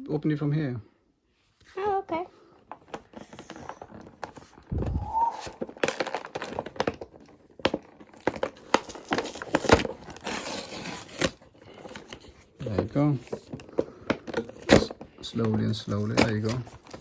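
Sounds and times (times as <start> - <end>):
packaging tearing and crinkling: 2.9 - 17.0.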